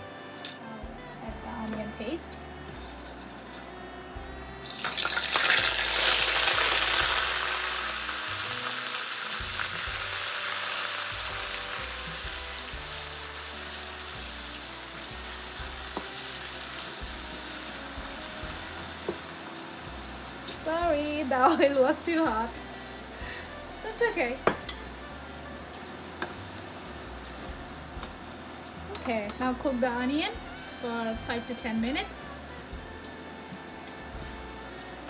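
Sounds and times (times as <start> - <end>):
paste sizzling in hot oil: 4.6 - 35.0.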